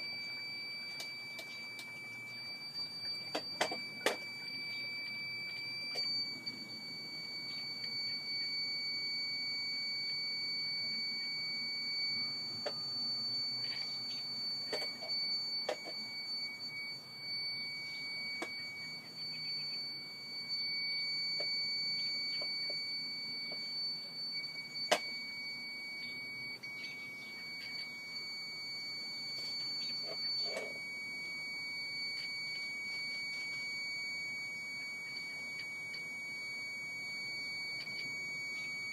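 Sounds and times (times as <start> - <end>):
alarm buzzer high-pitched tone: 0.0 - 38.9.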